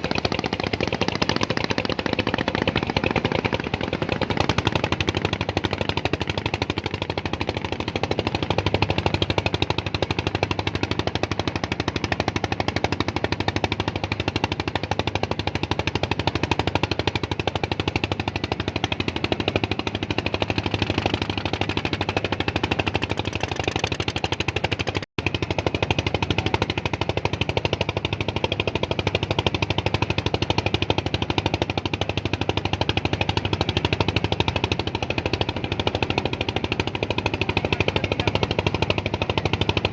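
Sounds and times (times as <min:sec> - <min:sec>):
small engine chugging: 0:00.0 - 0:39.9.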